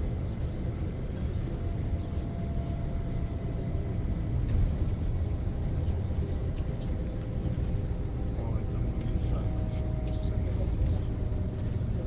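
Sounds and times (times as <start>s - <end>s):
engine and tyre rumble inside vehicle: 0.0s - 12.0s.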